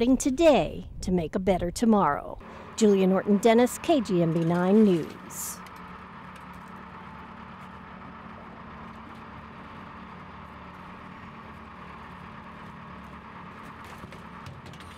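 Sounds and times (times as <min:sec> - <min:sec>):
engine idling: 0:02.4 - 0:14.9.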